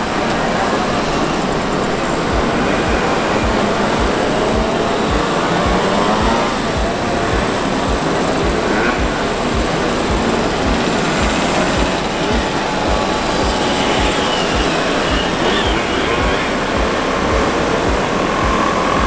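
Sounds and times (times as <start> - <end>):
music beat: 0.0 - 19.0
two-stroke mopeds passing: 0.0 - 19.0.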